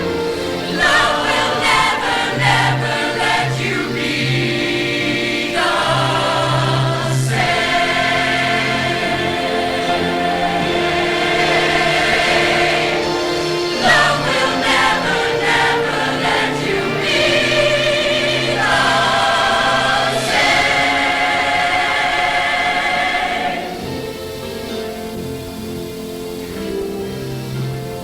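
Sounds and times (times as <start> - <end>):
choir singing with vibrato: 0.0 - 28.0.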